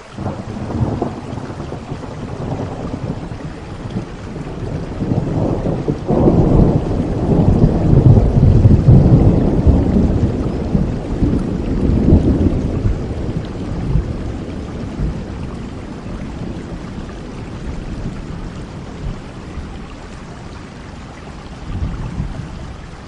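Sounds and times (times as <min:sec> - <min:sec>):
steady rain: 0:00.0 - 0:23.0
thunder rolling: 0:00.2 - 0:23.0.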